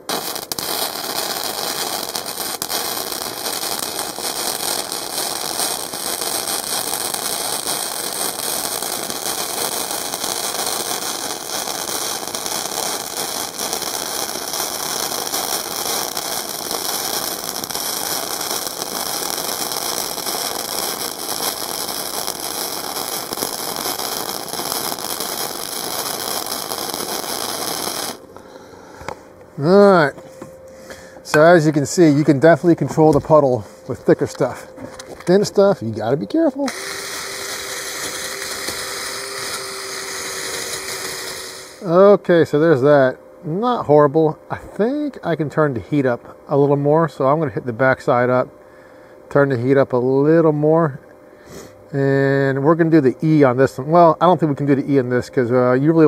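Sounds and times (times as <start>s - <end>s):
welder arc crackling sizzle: 0.0s - 28.6s, 31.3s - 47.2s, 51.9s - 56.0s.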